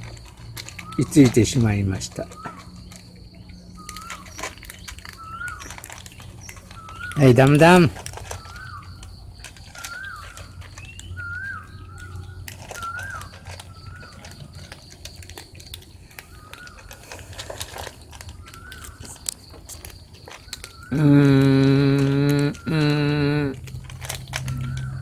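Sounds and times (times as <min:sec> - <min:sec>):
bird calling: 0:00.0 - 0:25.0.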